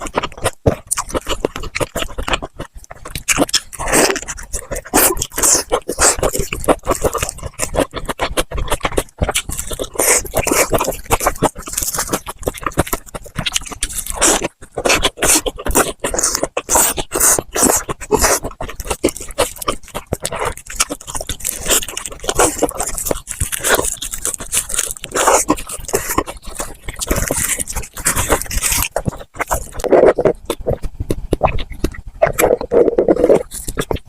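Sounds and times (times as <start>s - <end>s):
crunching fried food: 0.0s - 34.0s
wet chewing: 0.0s - 34.0s.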